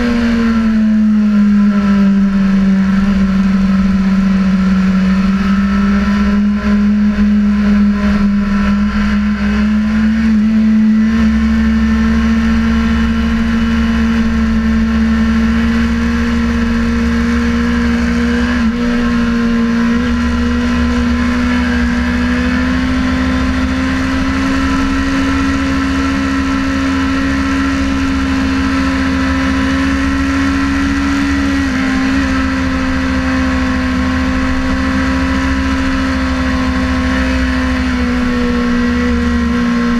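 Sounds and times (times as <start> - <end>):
motorcycle engine high pitch: 0.0 - 39.9.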